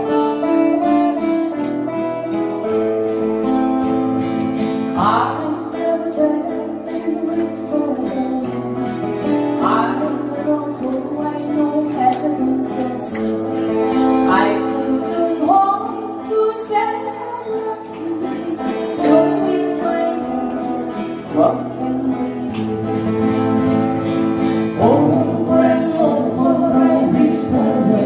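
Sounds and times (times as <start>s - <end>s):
acoustic guitars strummed and picked: 0.0s - 28.0s
person singing: 4.7s - 28.0s.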